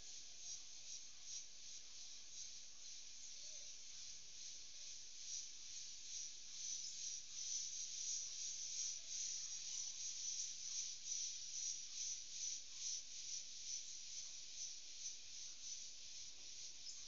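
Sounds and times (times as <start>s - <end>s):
shrill pulsing insect chorus: 0.0s - 17.0s.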